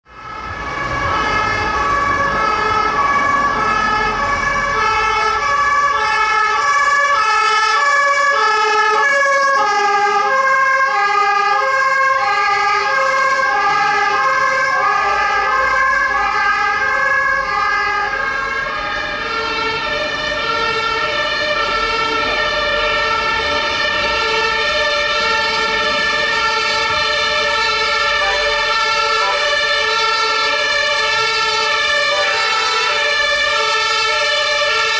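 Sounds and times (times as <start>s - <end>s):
two-tone emergency vehicle sirens: 0.0s - 34.9s.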